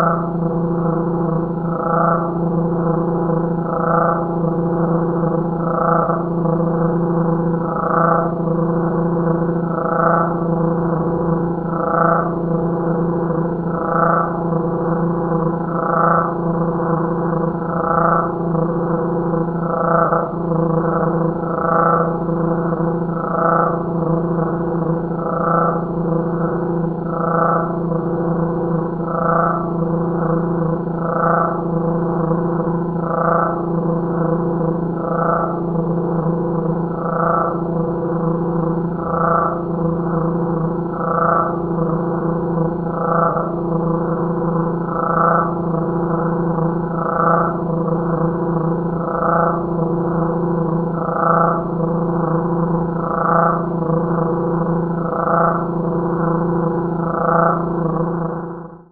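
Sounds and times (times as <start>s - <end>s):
slowed cricket chirps humming: 0.0s - 58.9s.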